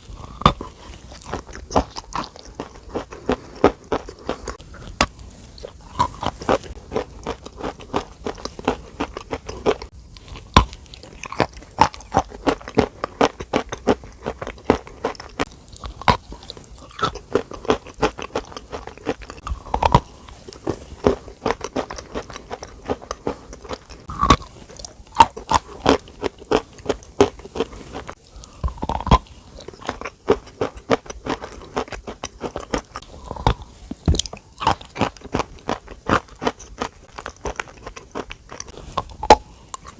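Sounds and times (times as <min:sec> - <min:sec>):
crisp crunching and crackling: 0:00.0 - 0:39.9.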